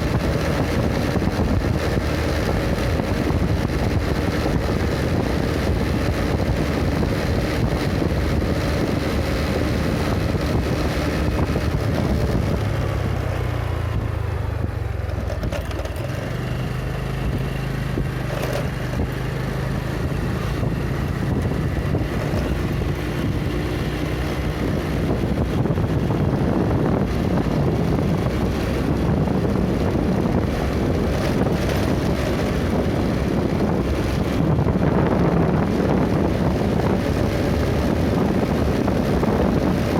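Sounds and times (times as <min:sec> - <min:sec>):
road noise: 0:00.0 - 0:39.9
vehicle engine drone: 0:00.0 - 0:39.9
wind buffeting microphone: 0:00.0 - 0:39.9.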